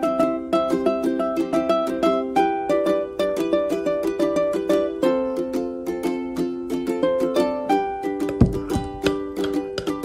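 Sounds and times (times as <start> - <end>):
plucked ukulele tune: 0.0 - 10.0.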